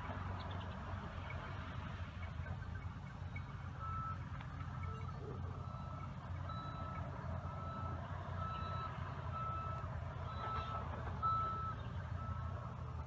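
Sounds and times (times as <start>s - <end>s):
low rumble of machine engines: 0.0s - 13.0s
reversing alarm beeping: 2.5s - 13.0s.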